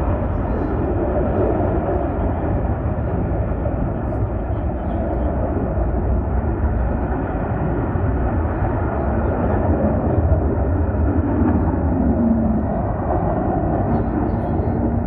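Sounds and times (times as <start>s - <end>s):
jet engine rumble in flight: 0.0s - 15.0s.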